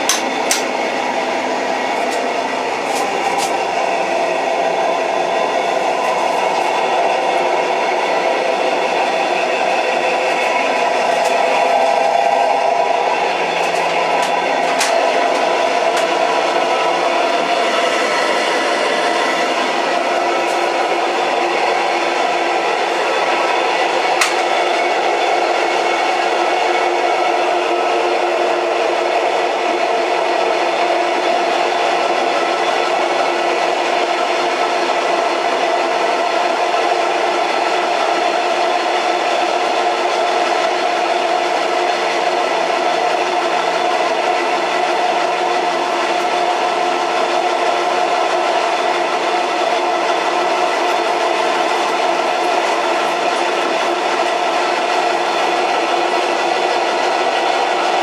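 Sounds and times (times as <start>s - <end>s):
old train running: 0.0s - 58.0s.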